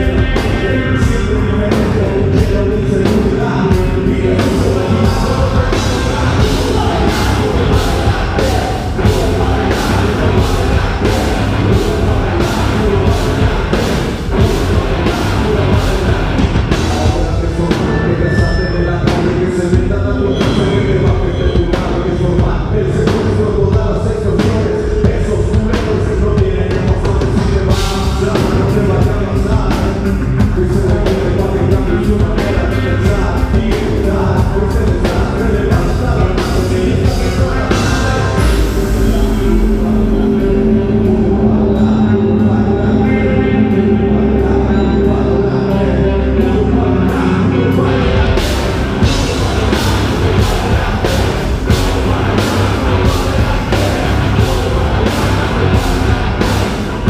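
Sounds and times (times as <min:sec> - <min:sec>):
drum kit beating: 0:00.0 - 0:44.6, 0:47.1 - 0:57.0
electric guitars: 0:00.0 - 0:57.0.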